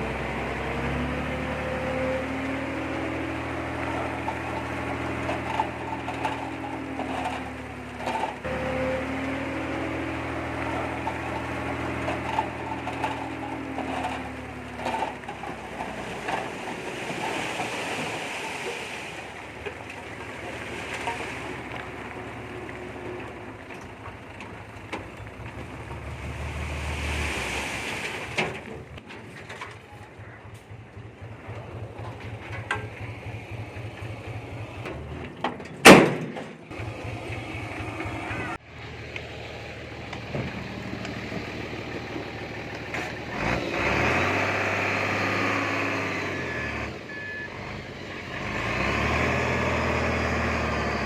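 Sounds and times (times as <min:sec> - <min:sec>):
bulldozer diesel engine under load: 0:00.0 - 0:51.0.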